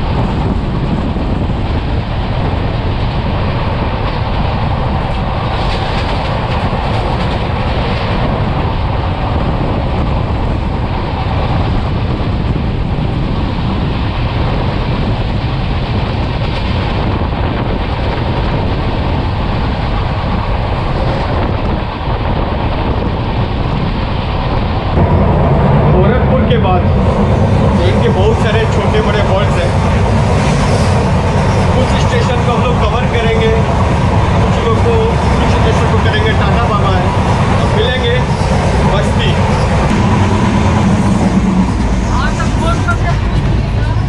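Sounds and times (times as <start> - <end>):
air rushing past: 0.0 - 44.0
train wheels rumbling on rails: 0.0 - 44.0.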